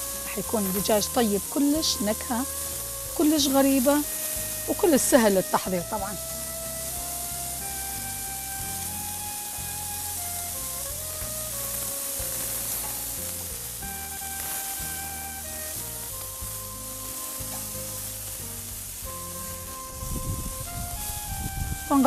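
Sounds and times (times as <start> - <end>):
background music: 0.0 - 22.0
chicken sizzling on a grill: 0.0 - 22.0.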